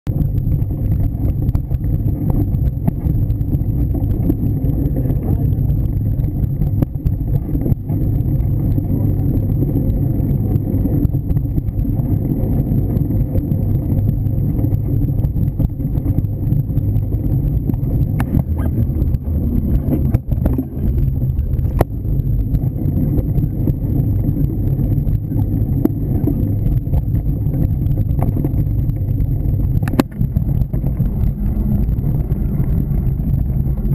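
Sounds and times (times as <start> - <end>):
bike tyres rumbling on dirt: 0.1 - 33.9
wind on microphone: 0.1 - 33.9.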